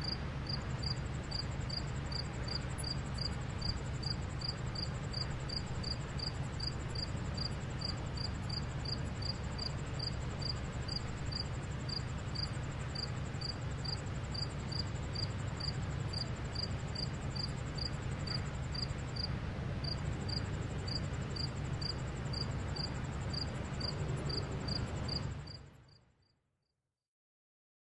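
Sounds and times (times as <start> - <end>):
cricket chirping: 0.0 - 26.0
high insect trill: 0.0 - 26.0
low city hum: 0.0 - 26.2.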